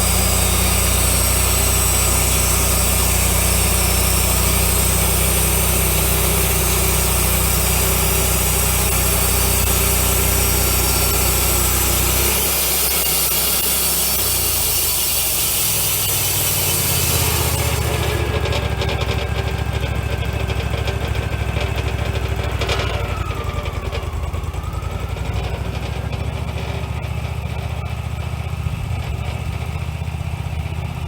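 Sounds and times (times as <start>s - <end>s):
bandsaw cutting wood: 0.0s - 27.7s
engine hum: 0.0s - 31.0s.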